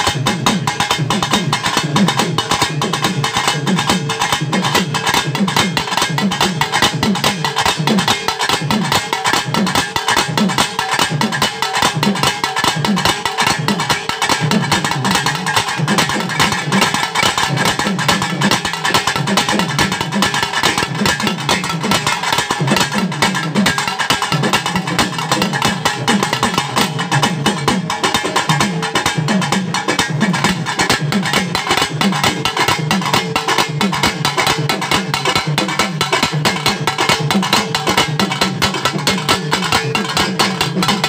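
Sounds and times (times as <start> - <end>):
rapid stick drum strokes: 0.0 - 41.0.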